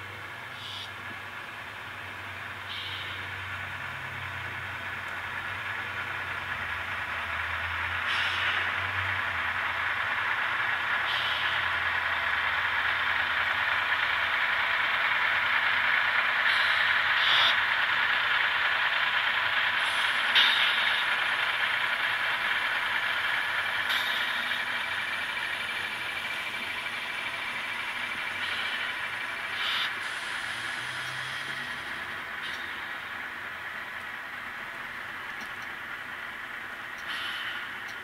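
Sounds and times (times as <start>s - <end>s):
model train whirring hiss: 2.6s - 4.1s, 7.6s - 35.7s, 36.6s - 38.0s
train wheel clicks: 4.1s - 30.0s, 32.2s - 38.0s.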